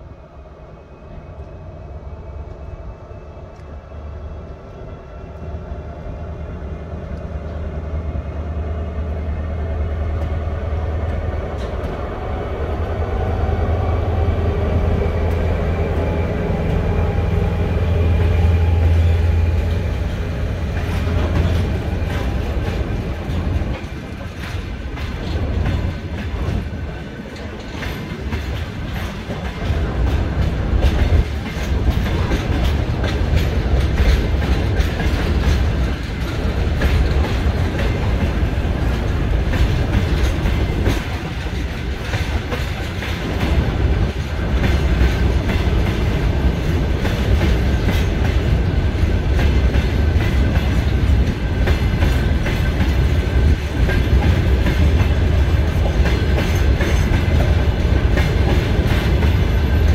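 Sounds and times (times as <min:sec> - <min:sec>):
diesel locomotive engine drone: 0:00.0 - 0:59.9
train wheels clicking on rails: 0:06.6 - 0:59.9.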